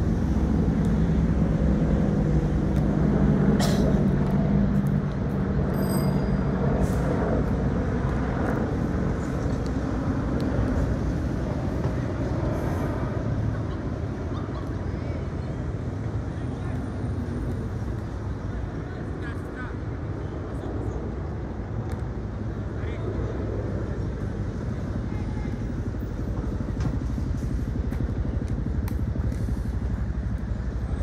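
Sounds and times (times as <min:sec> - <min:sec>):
road traffic noise: 0:00.0 - 0:31.0
vehicle engine humming: 0:00.0 - 0:31.0.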